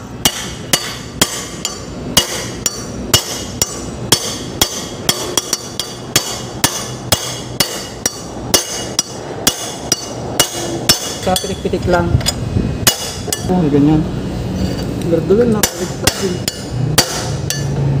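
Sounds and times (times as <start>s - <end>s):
hammer striking metal: 0.0s - 11.7s, 12.8s - 13.5s, 15.5s - 17.9s.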